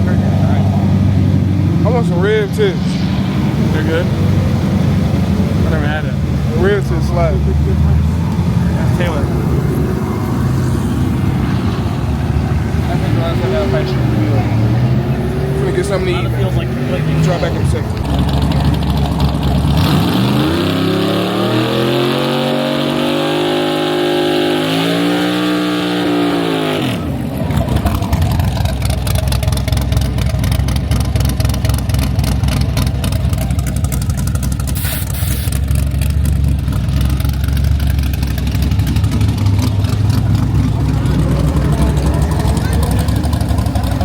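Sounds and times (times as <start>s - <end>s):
low engine rumble: 0.0s - 20.0s, 26.9s - 44.0s
car engine revving: 0.0s - 44.0s.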